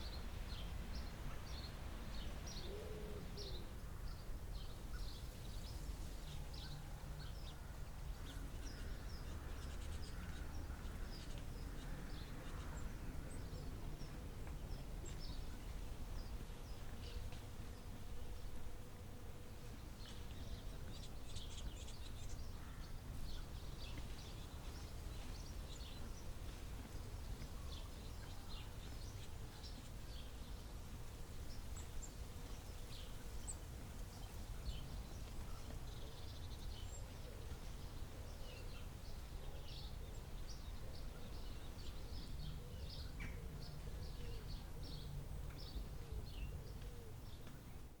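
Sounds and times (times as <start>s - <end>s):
small birds chirping: 0.0s - 18.8s, 19.4s - 48.0s.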